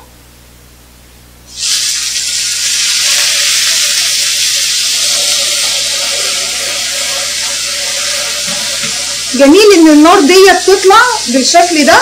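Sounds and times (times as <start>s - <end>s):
chicken sizzling in frying pan: 1.5s - 12.0s.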